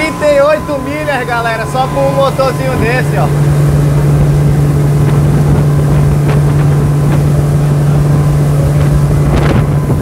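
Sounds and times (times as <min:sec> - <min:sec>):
outboard motor drone: 0:00.0 - 0:10.0
water rushing against hull: 0:00.0 - 0:10.0.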